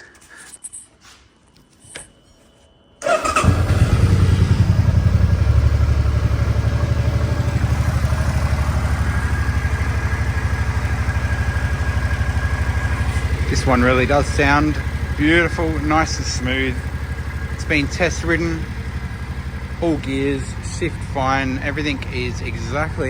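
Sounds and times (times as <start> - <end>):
motorcycle engine starting and idling: 3.0 - 23.0.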